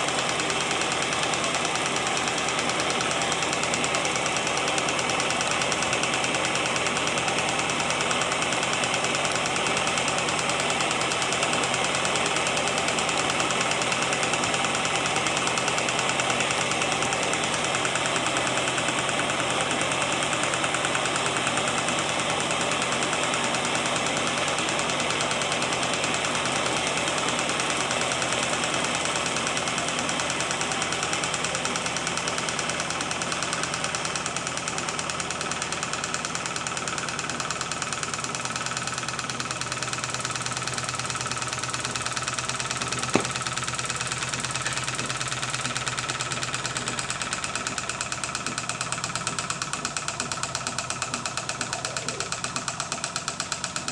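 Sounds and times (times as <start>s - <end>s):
small engine mechanical clatter: 0.0s - 53.9s.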